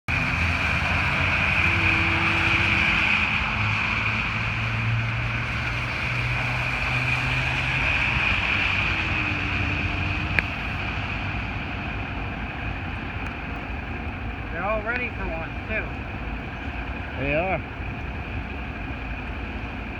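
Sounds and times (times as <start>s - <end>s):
vehicle engines passing: 0.0s - 19.9s
traffic hiss: 0.1s - 19.9s.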